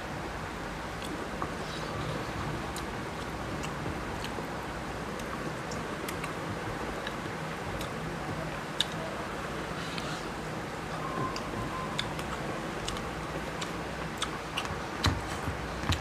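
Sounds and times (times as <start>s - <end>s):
steady background hum: 0.0s - 16.0s
eating sounds: 1.0s - 10.6s, 11.2s - 16.0s.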